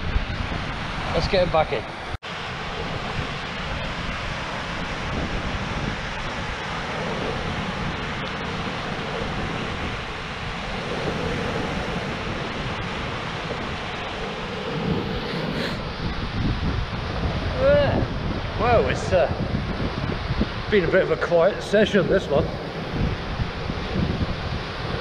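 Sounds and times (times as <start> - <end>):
wind blowing on microphone: 0.0 - 25.0
waves breaking on a pebble beach: 0.8 - 25.0.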